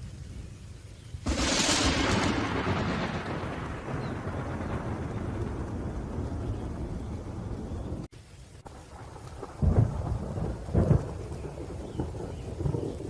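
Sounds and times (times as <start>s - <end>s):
rain falling: 0.0s - 13.0s
thunder rolls: 1.2s - 13.0s
thunder rumbling: 1.2s - 13.0s.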